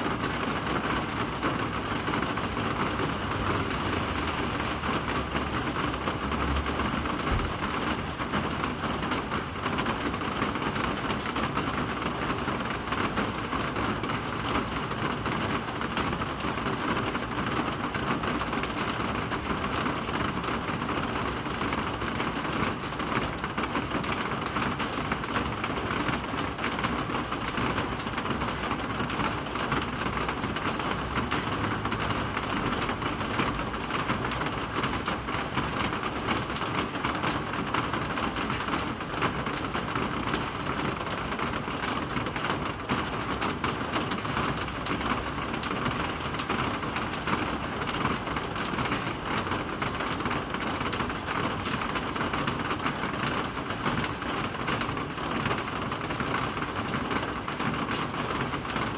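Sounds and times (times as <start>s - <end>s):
rain falling steadily: 0.0s - 58.9s.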